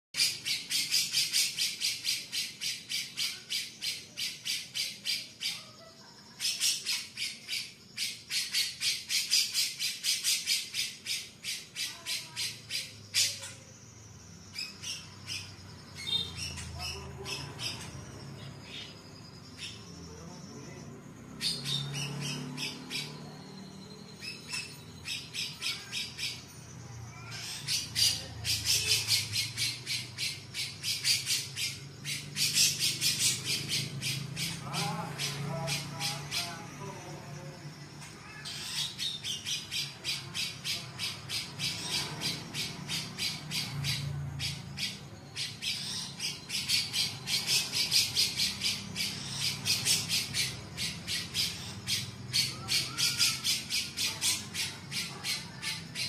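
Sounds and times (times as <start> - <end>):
bird harsh chattering calls: 0.2 - 56.0.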